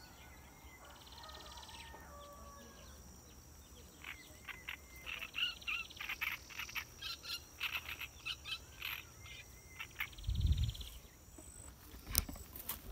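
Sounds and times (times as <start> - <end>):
birds chirping: 0.0 - 12.9
high insect whine: 0.0 - 12.9.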